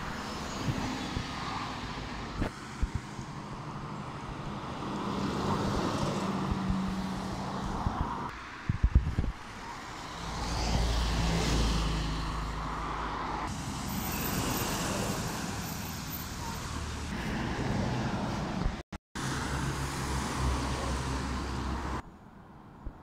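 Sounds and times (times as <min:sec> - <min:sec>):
heavy vehicles passing: 0:00.0 - 0:22.0.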